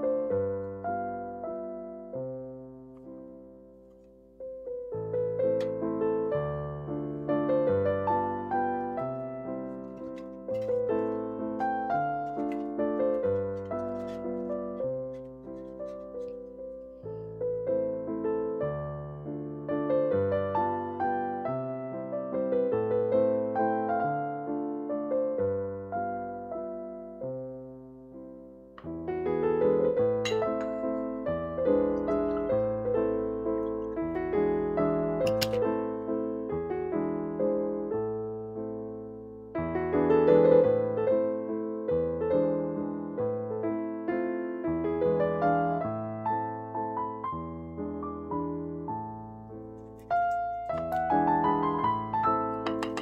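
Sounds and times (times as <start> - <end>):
piano music: 0.0 - 53.0.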